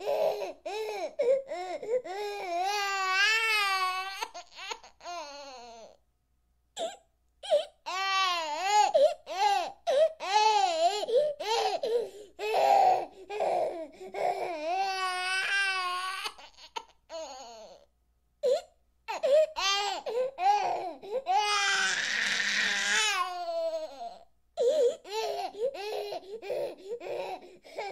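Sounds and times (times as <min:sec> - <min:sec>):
baby crying: 0:00.0 - 0:06.0, 0:06.8 - 0:27.9.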